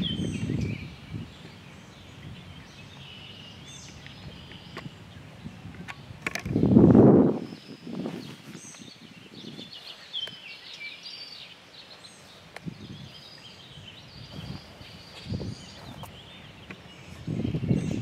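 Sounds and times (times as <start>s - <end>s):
wind noise on microphone: 0.0s - 10.5s, 12.3s - 18.0s
songbirds chirping and singing: 0.0s - 18.0s.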